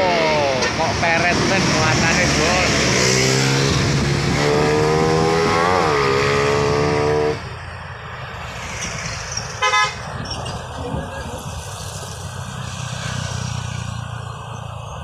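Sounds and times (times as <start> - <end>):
truck diesel engine labouring: 0.0 - 15.0.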